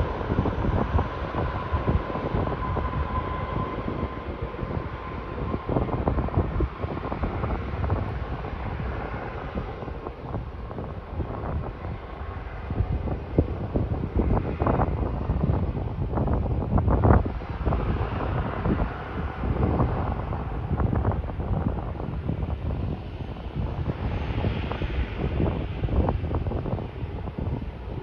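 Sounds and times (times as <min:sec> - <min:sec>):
airliner landing rumble: 0:00.0 - 0:28.0
wind noise: 0:00.0 - 0:28.0.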